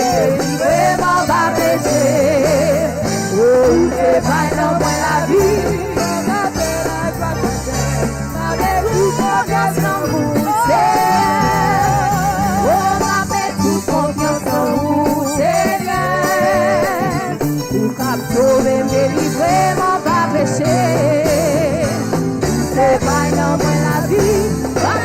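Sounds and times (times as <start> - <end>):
gospel band with bass line: 0.0 - 25.0
person singing with vibrato: 0.0 - 25.0.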